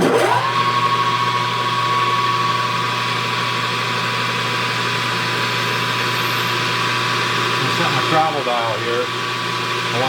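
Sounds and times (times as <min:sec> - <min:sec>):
lathe motor whine: 0:00.0 - 0:10.0.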